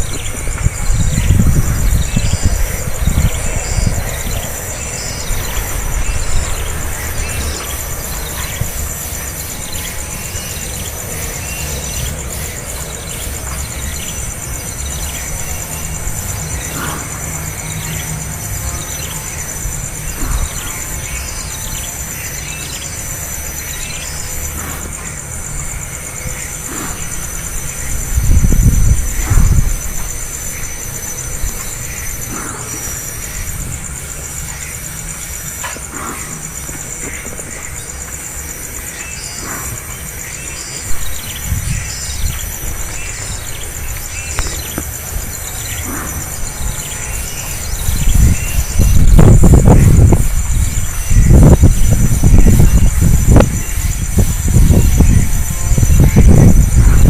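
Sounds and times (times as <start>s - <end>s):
nestling birds begging chirps: 0.0s - 57.0s
pulsing insect buzz: 0.0s - 57.0s
wind rumble on microphone: 0.0s - 57.0s.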